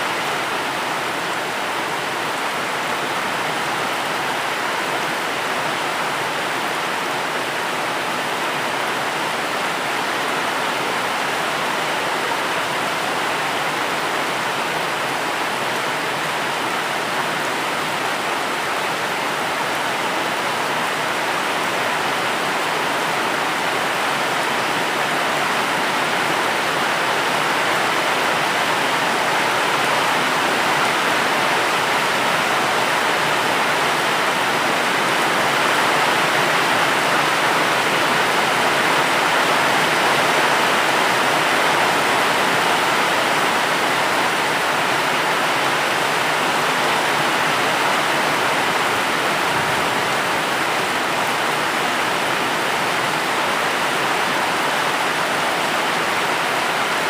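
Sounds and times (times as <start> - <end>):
steady dense rainfall: 0.0 - 57.0.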